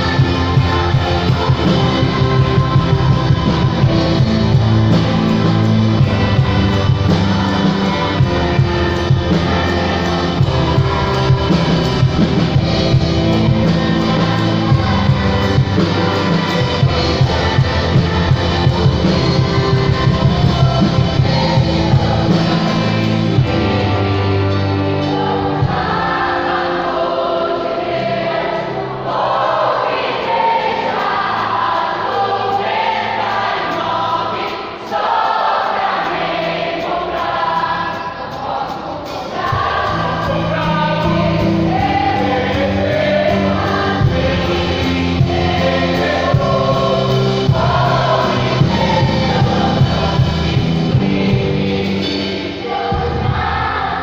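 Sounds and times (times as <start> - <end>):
bass guitar: 0.0 - 29.0, 39.4 - 54.0
choir singing: 0.0 - 54.0
drums: 0.0 - 54.0
guitar: 0.0 - 54.0.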